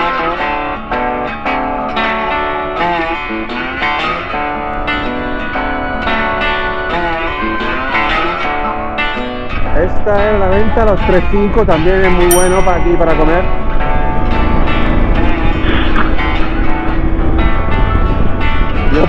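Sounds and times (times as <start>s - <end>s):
guitar background music: 0.0s - 19.0s.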